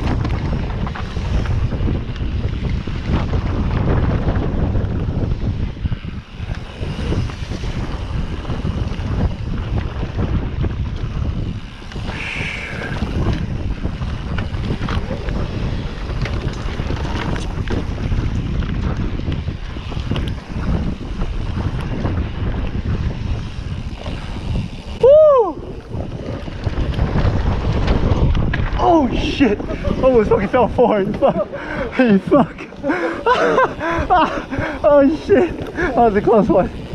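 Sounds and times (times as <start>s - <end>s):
bike clicks and rattles: 0.0s - 36.9s
low rumble of bike riding: 0.0s - 36.9s
wind buffeting microphone: 0.0s - 36.9s.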